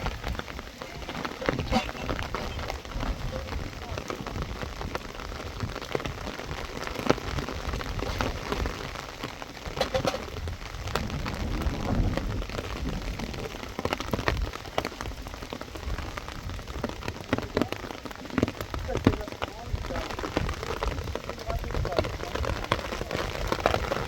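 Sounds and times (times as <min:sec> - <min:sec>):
raindrops striking close by: 0:00.0 - 0:24.0
steady rain falling: 0:00.0 - 0:24.0.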